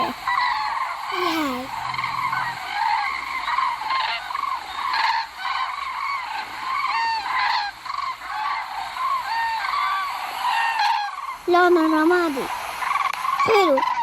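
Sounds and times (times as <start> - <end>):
flamingos honking: 0.0 - 14.0.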